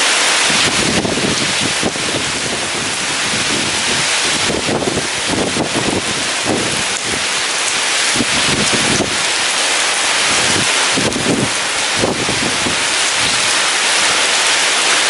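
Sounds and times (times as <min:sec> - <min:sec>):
heavy rain pouring: 0:00.0 - 0:15.0
strong wind: 0:00.0 - 0:15.0.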